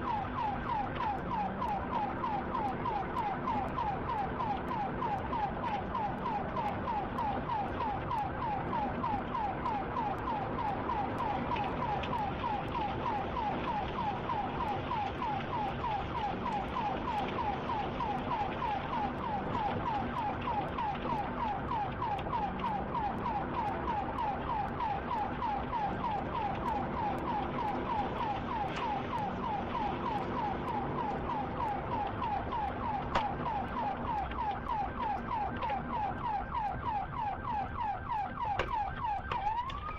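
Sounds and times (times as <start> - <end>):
police siren yelping: 0.0 - 39.9
vehicle and road noise: 0.0 - 39.9.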